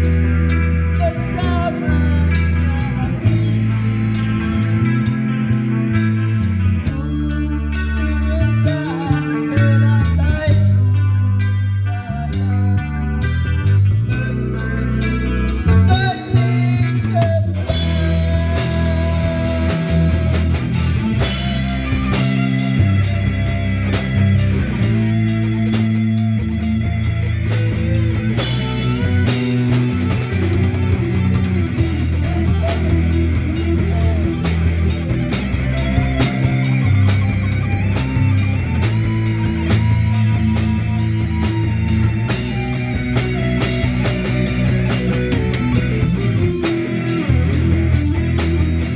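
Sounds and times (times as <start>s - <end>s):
bass guitar: 0.0s - 48.9s
drum kit steady beat: 0.0s - 48.9s
electric guitars through amplifiers: 0.0s - 48.9s.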